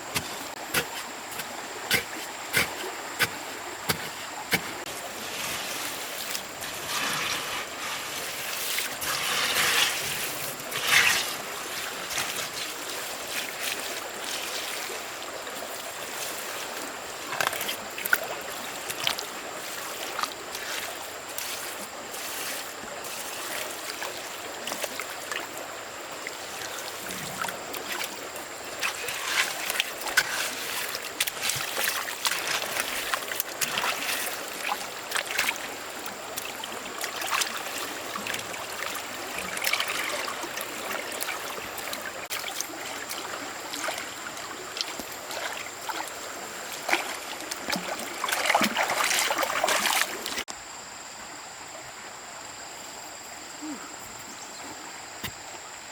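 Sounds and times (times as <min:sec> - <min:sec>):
water trickling and splashing: 0:00.0 - 0:50.6.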